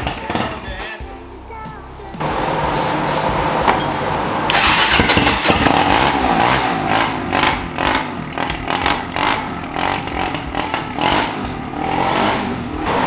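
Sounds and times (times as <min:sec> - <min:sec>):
quad engine revving: 0:02.2 - 0:13.0.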